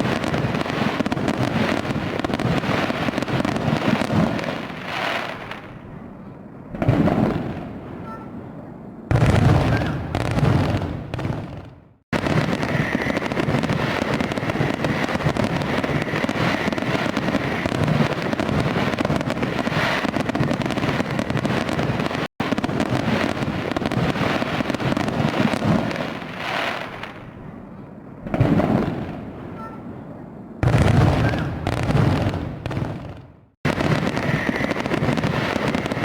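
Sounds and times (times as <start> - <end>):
fireworks crackling: 0.0 - 5.9, 9.1 - 27.4, 30.6 - 36.0.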